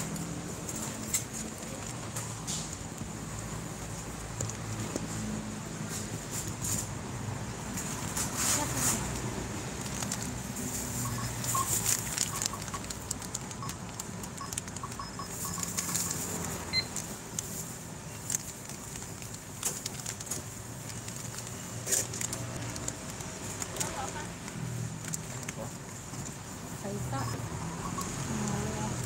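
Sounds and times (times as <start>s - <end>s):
items handled at counter: 0.0s - 29.0s.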